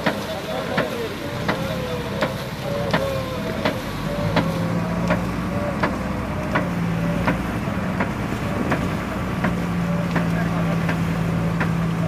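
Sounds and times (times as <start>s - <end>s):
paddle stroke knocks: 0.0s - 11.8s
engine hum: 0.0s - 12.0s.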